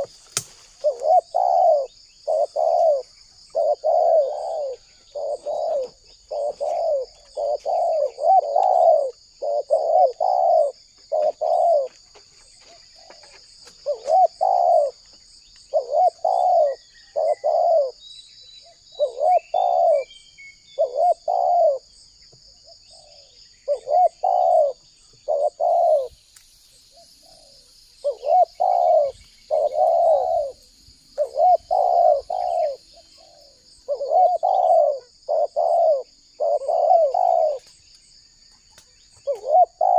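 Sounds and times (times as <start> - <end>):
dove cooing: 0.8 - 15.0, 15.7 - 18.0, 18.6 - 20.1, 20.7 - 22.0, 22.7 - 26.2, 26.9 - 37.8, 39.1 - 39.9.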